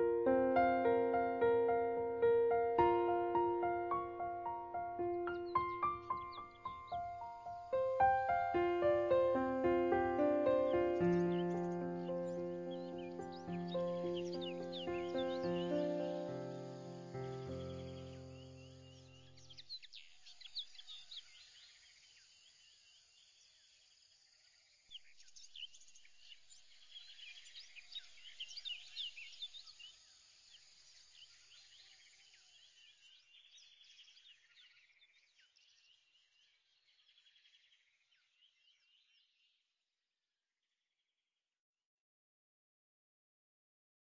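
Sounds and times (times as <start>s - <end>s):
birds chirping and twittering: 0.0s - 23.6s, 24.5s - 39.6s.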